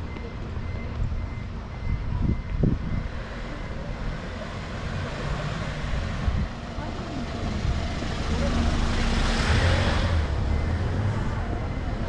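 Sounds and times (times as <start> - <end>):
passing traffic rumble: 0.0 - 12.0.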